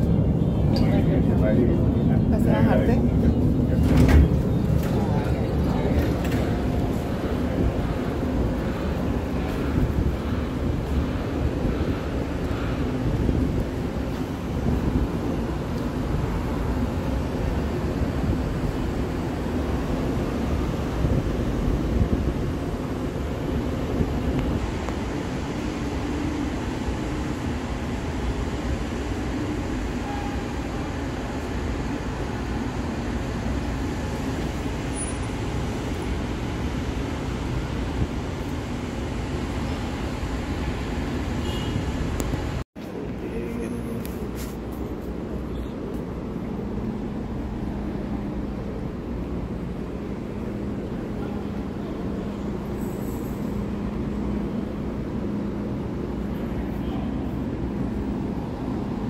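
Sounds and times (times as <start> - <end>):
people mover car rumbling: 0.0 - 59.0.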